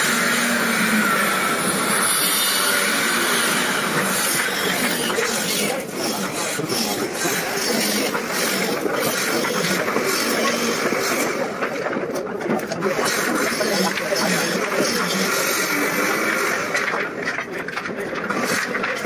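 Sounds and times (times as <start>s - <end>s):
machinery running: 0.0s - 19.0s.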